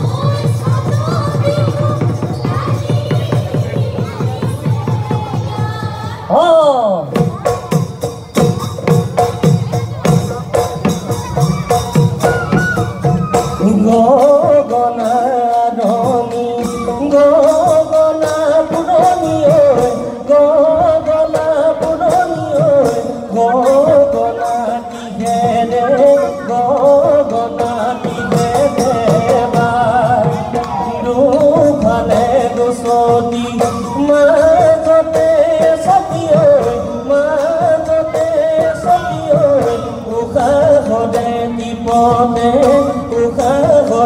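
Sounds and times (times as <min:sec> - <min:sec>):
brisk folk drumming: 0:00.0 - 0:44.0.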